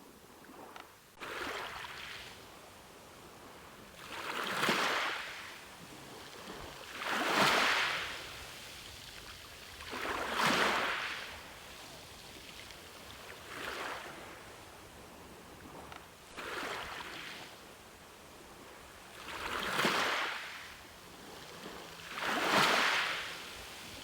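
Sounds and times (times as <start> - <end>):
ocean waves breaking: 1.2 - 24.0
steady hiss of surf: 1.2 - 24.0.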